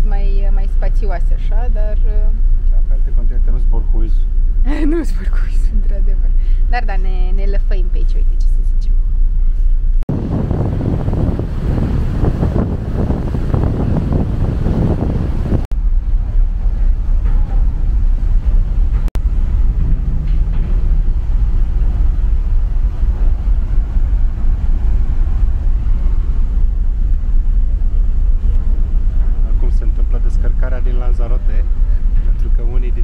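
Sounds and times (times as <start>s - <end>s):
deep ship rumble: 0.0s - 33.0s
wind buffeting microphone: 0.0s - 33.0s.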